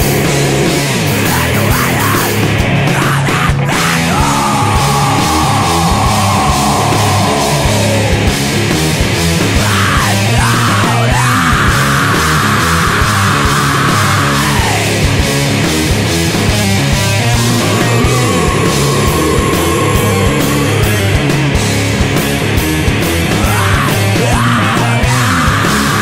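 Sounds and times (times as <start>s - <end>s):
drums: 0.0s - 26.0s
heavy distorted guitars: 0.0s - 26.0s
high guitar line sliding in pitch: 0.0s - 26.0s.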